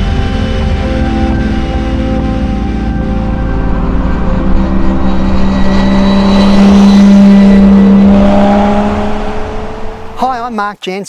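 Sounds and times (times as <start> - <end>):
car engine running: 0.0 - 10.5.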